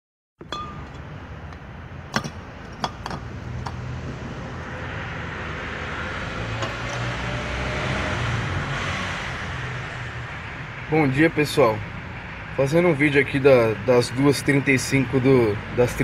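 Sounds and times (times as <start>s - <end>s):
motor vehicle rumble: 0.4s - 16.0s.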